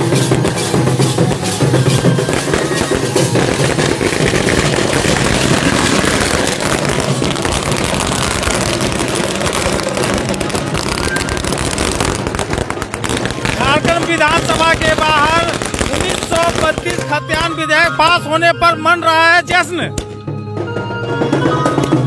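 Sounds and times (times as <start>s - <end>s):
firecrackers crackling: 0.0s - 18.3s
drums beating: 0.0s - 22.0s.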